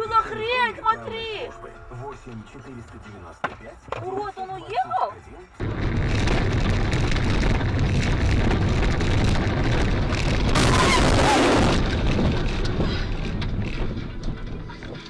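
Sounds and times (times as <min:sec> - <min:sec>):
vehicle low rumble: 0:00.0 - 0:03.9, 0:05.4 - 0:15.0.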